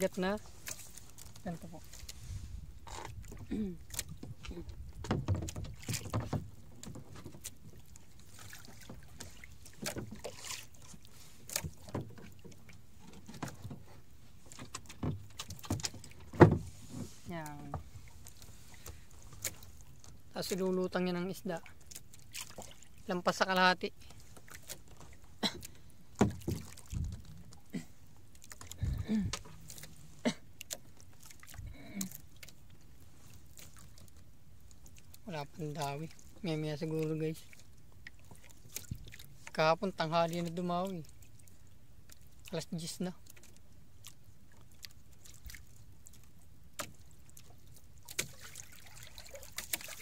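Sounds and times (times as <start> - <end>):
water lapping against boat hull: 0.0 - 50.0.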